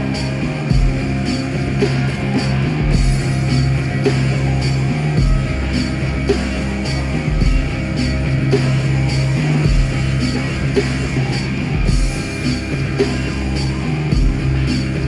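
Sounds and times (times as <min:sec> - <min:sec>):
music with beat over loudspeakers: 0:00.0 - 0:15.0.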